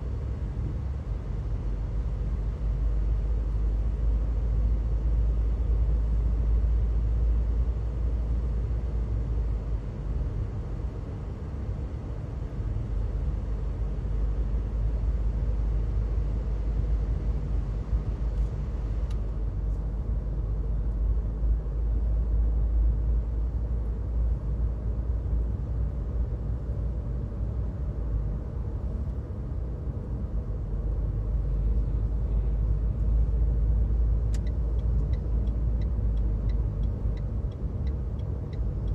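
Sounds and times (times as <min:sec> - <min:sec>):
car cabin road noise: 0:00.0 - 0:38.9.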